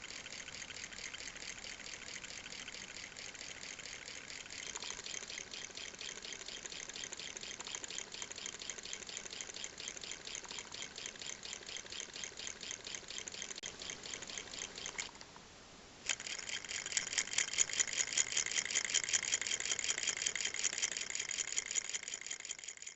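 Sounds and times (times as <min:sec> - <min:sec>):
solenoid engine clicking: 0:00.0 - 0:15.4, 0:16.0 - 0:22.9.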